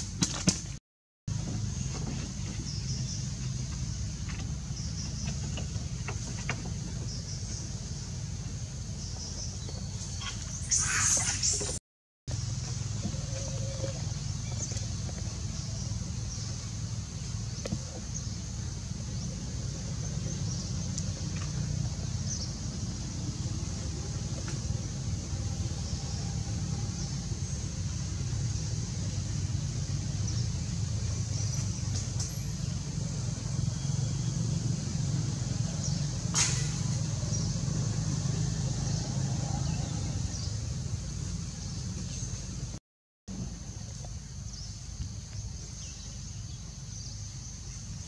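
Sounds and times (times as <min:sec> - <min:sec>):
constant high hiss: 0:00.0 - 0:48.0
low outdoor rumble: 0:01.3 - 0:48.0.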